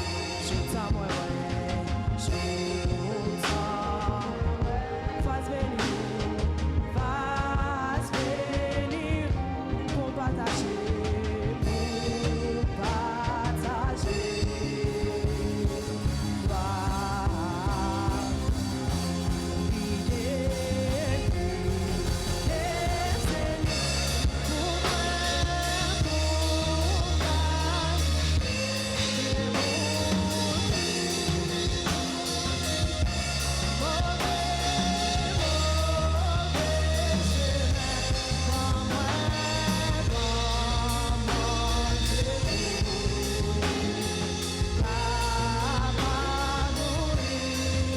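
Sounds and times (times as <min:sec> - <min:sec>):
person singing: 0:00.0 - 0:47.9
worship band playing: 0:00.0 - 0:47.9.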